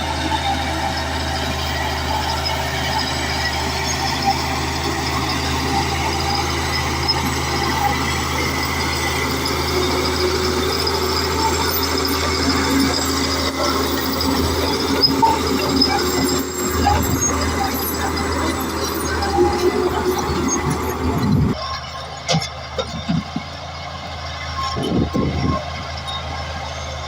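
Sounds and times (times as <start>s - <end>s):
bulldozer diesel engine running: 0.0s - 27.0s.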